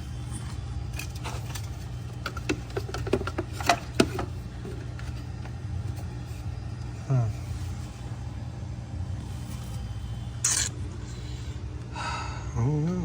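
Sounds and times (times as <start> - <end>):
refrigerator compressor hum: 0.0 - 13.0
small fan blowing: 0.0 - 13.0.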